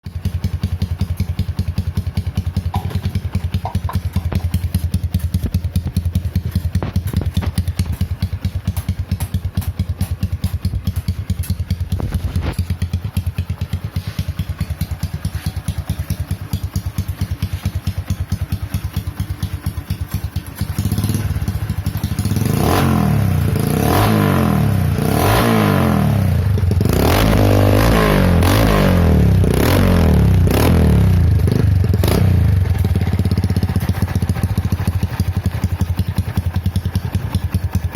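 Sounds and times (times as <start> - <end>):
motorcycle engine idling and revving: 0.0 - 37.9.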